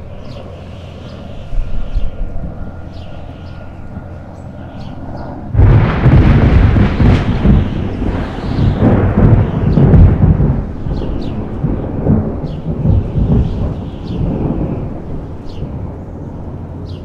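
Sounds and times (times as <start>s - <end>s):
deep rolling rumble: 0.0s - 17.0s.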